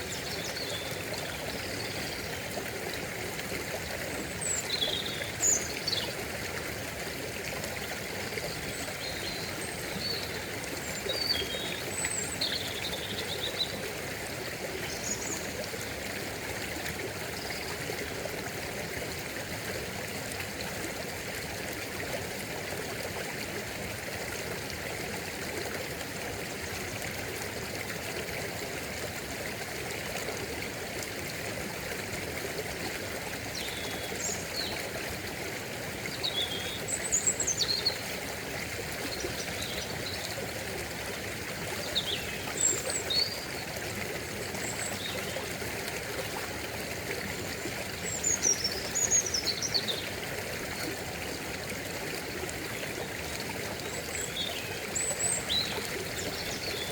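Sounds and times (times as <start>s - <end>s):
stream trickling: 0.0s - 56.9s.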